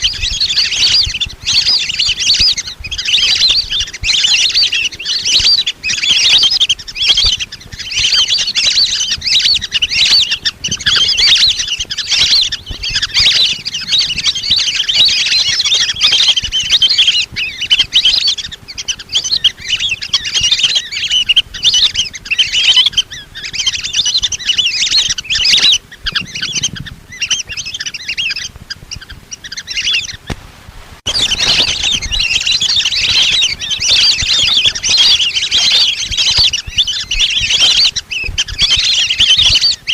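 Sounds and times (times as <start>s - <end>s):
ducks whistling calls: 0.0s - 30.4s, 31.0s - 39.9s.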